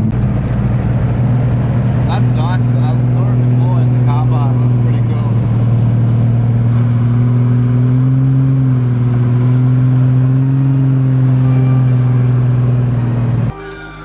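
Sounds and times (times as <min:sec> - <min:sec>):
car engine droning: 0:00.0 - 0:13.5.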